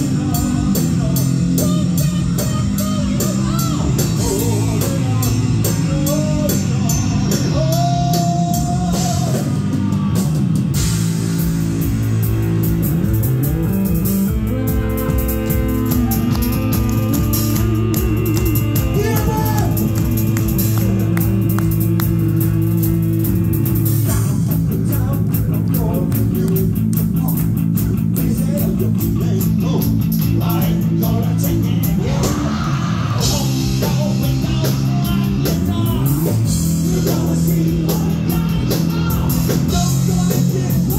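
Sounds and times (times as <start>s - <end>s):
distorted electric guitar lead: 0.0s - 40.9s
heavy metal band playing: 0.0s - 40.9s.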